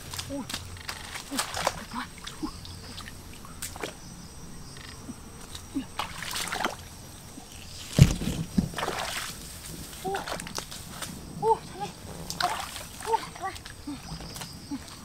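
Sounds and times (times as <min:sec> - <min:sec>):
splashing in shallow stream water: 0:00.0 - 0:04.0, 0:05.4 - 0:11.1, 0:12.2 - 0:15.0.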